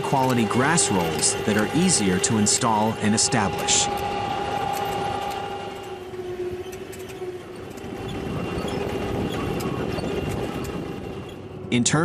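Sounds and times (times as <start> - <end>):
constant machine whine: 0.0 - 12.0
turf harvester running: 0.0 - 12.0.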